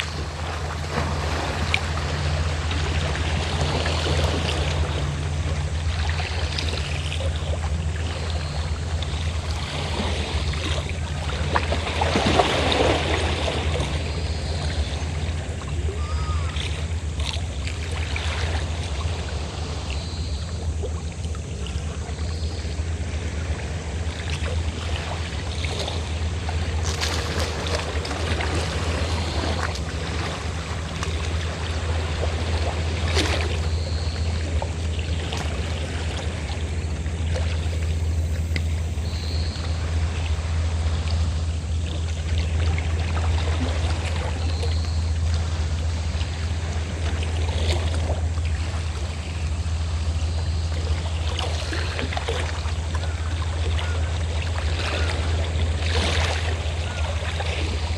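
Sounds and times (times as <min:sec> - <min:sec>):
boat engine droning: 0:00.0 - 0:57.9
sea water splashing: 0:00.0 - 0:57.9.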